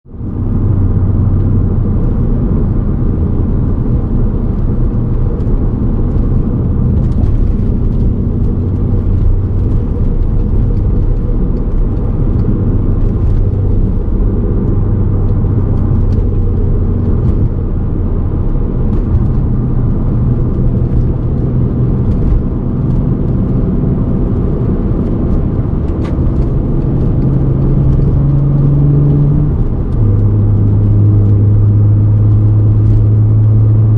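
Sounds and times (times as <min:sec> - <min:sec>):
car cabin low rumble: 0:00.1 - 0:33.9
car engine running: 0:00.1 - 0:33.9.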